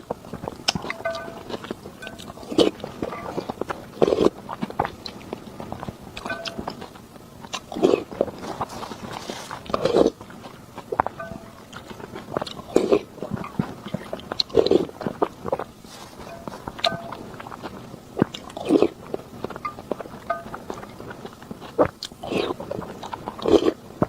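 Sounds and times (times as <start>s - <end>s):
person biting and chewing: 0.0s - 23.8s.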